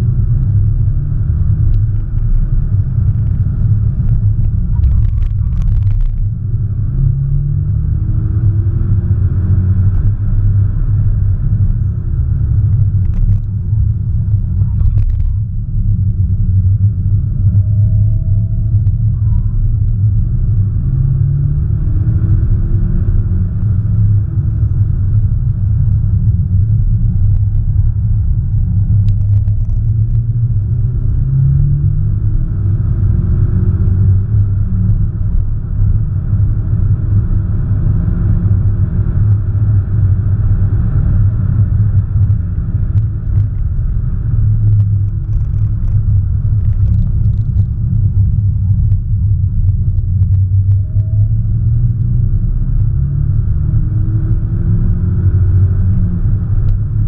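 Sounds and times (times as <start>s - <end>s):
car engine rumbling at speed: 0.0s - 57.0s
road noise: 0.0s - 57.0s.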